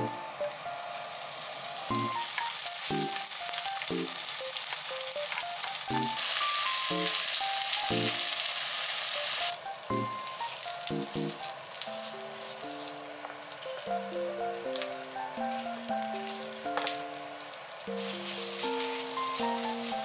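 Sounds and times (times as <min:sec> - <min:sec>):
soft background music: 0:00.0 - 0:08.6, 0:09.2 - 0:20.0
onions sizzling in oil: 0:00.0 - 0:20.0.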